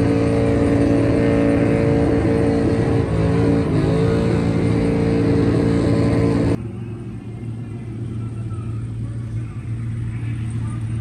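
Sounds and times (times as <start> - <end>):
low engine rumble: 0.0 - 11.0
truck engine at high revs: 0.0 - 11.0.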